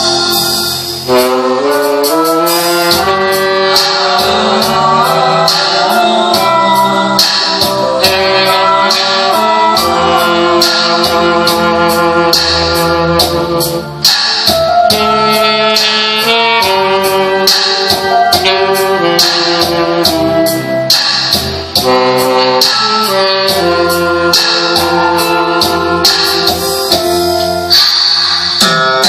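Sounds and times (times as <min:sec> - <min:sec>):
horn playing sustained melody: 0:00.0 - 0:27.9
steady band beat: 0:00.0 - 0:29.0.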